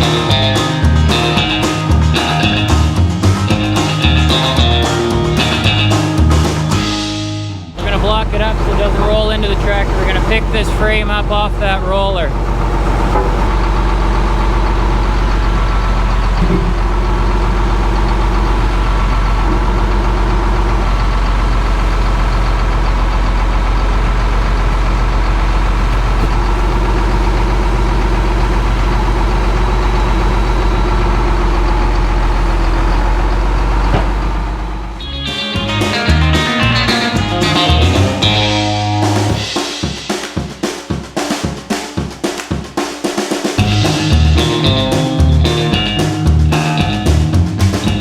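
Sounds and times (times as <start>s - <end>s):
diesel engine running: 0.0s - 39.6s, 43.6s - 48.0s.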